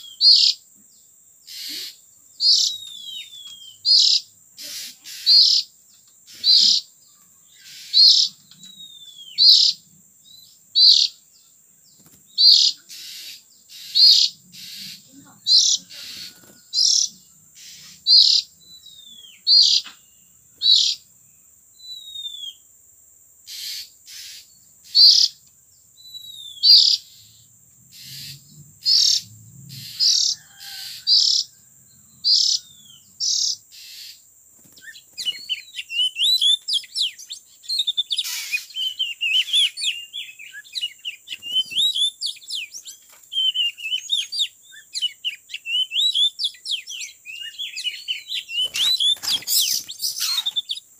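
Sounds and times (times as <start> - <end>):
bird raspy calls: 0.0 - 0.7, 1.4 - 11.5, 12.3 - 21.1, 23.5 - 25.4, 26.1 - 50.9
bird twittering song: 0.0 - 22.7, 23.4 - 50.9.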